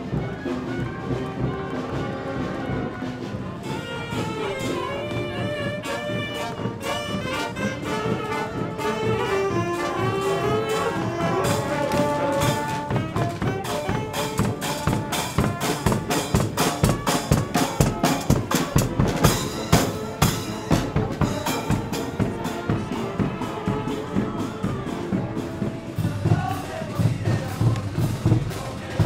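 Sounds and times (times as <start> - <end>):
driving drum beat: 0.0 - 29.0
street brass band playing: 0.0 - 29.0.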